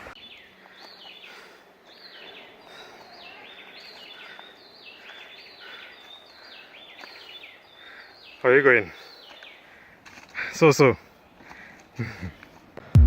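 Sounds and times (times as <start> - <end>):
forest birds calling: 0.0 - 12.9.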